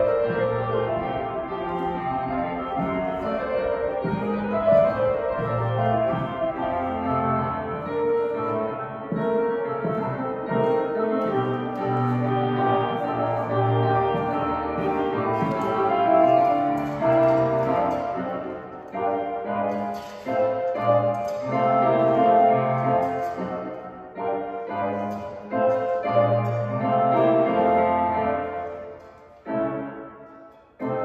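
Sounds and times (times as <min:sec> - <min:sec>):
solo piano classical music: 0:00.0 - 0:31.0.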